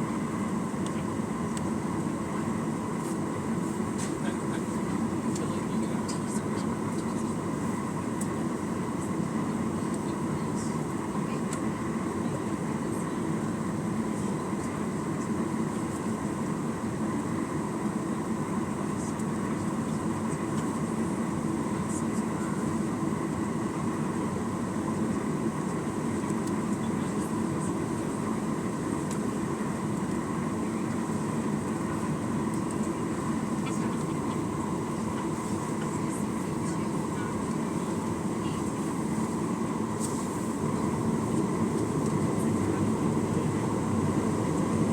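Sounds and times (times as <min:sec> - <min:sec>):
airplane cabin roar: 0:00.0 - 0:44.9.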